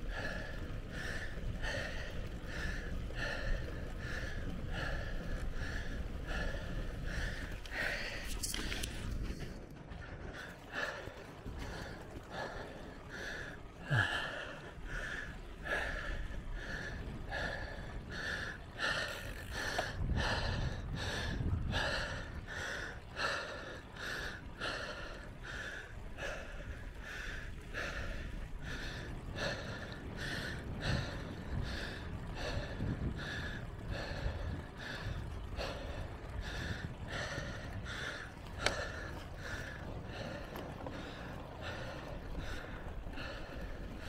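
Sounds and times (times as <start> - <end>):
person panting hard: 0.0 - 44.0.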